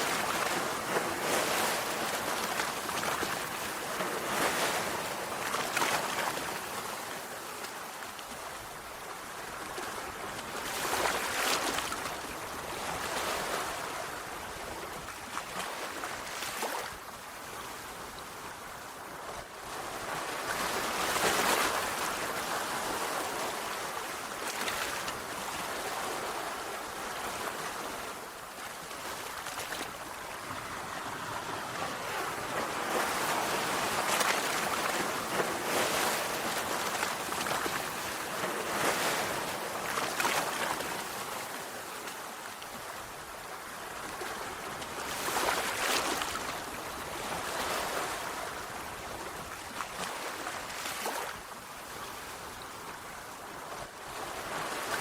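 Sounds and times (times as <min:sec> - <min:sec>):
sea waves surging on shore: 0:00.0 - 0:55.0.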